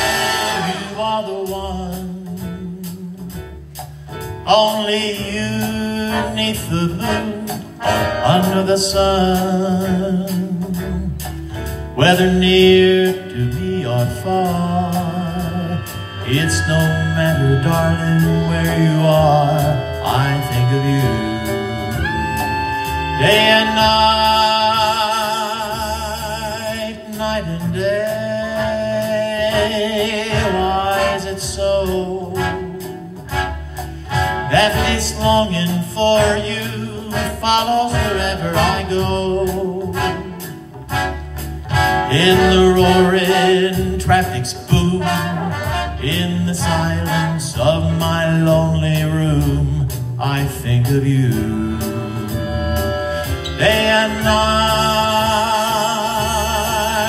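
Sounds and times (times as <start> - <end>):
wavering melody over bass line: 4.5 - 37.5, 38.1 - 57.0.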